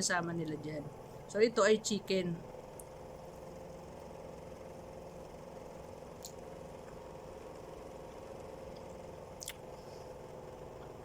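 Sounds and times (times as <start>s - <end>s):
machine hum with held tones: 0.0s - 11.0s.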